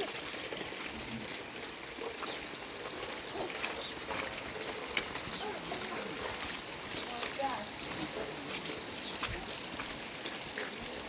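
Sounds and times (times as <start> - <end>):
rain: 0.0 - 11.0
running water: 0.0 - 11.0.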